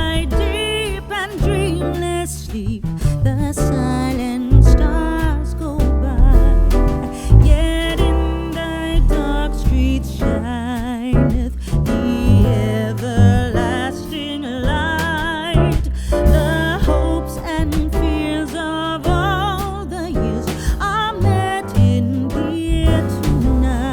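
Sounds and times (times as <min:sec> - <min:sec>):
strong bass line: 0:00.0 - 0:23.9.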